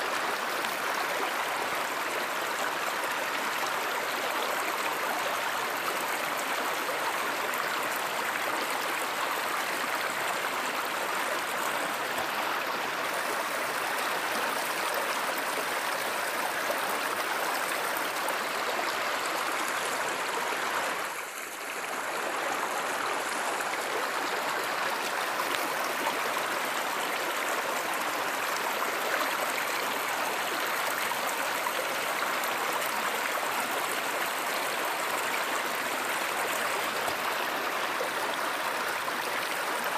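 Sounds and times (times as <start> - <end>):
stream rushing and gurgling: 0.0 - 39.9.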